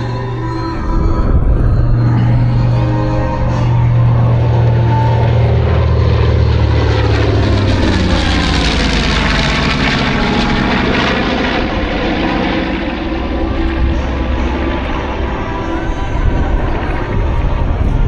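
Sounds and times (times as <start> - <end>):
bomber radial engines droning: 0.0 - 18.0.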